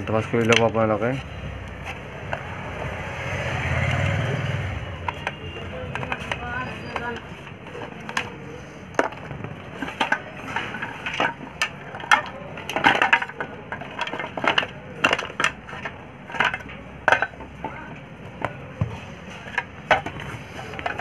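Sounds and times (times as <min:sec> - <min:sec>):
clicks knocks and scrapes: 0:00.2 - 0:03.2, 0:04.9 - 0:21.0.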